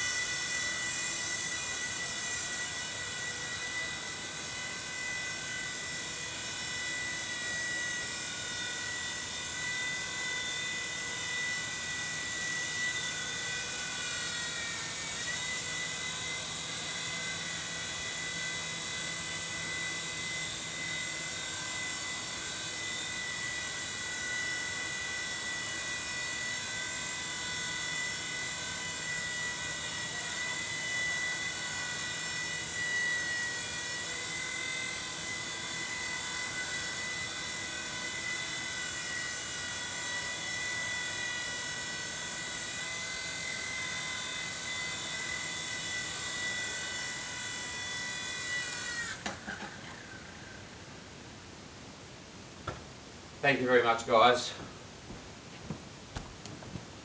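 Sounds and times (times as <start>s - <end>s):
toy helicopter whining: 0.0s - 51.1s.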